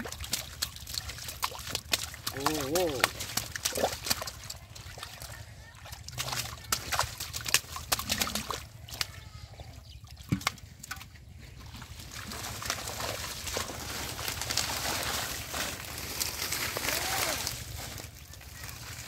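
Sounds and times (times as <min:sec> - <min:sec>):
fish splashing in shallow water: 0:00.0 - 0:19.0.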